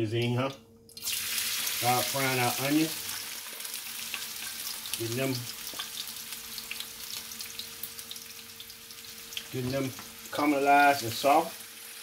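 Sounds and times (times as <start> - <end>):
onions sizzling in hot oil: 1.0 - 12.0.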